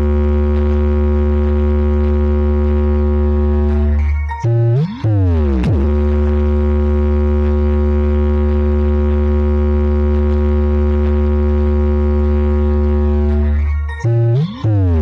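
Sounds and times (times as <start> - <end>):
electronic bass test tone: 0.0 - 15.0.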